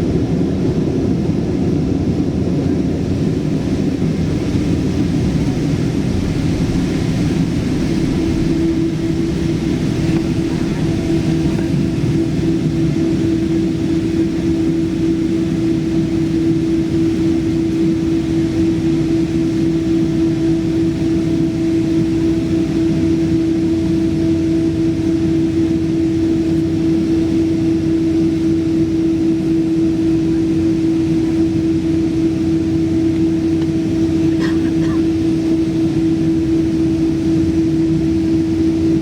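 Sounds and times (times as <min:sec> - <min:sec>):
airplane cabin engine rumble and hiss: 0:00.0 - 0:39.0.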